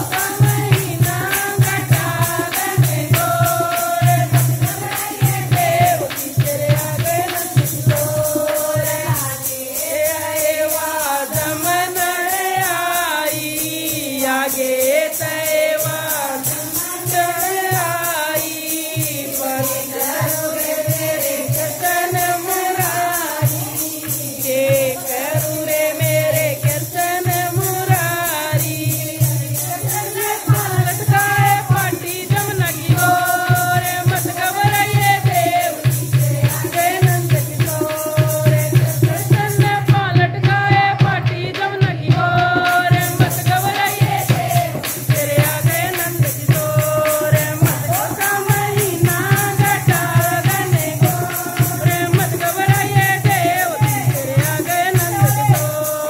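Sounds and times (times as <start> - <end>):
fast percussion beat: 0.0 - 56.0
women singing devotional song: 0.0 - 56.0.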